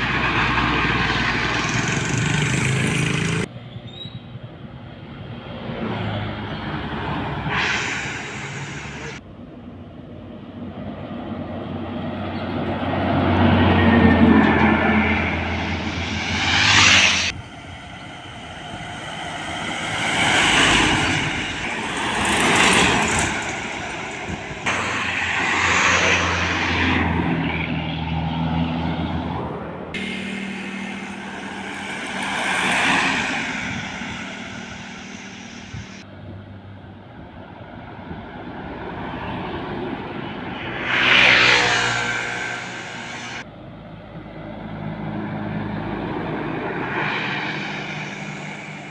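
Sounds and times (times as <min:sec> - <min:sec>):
trucks driving past: 0:00.0 - 0:48.9
low engine hum: 0:08.8 - 0:48.9.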